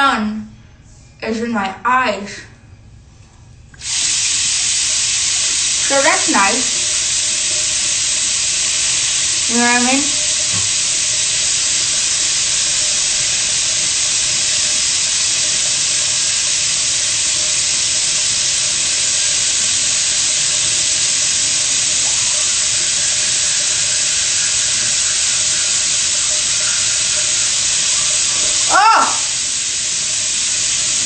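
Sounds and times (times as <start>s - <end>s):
loud steady hiss: 3.7s - 31.0s.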